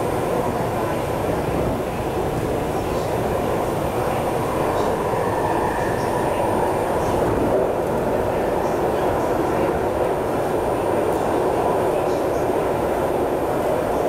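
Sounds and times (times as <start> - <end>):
train rumble inside passenger car: 0.0 - 14.0.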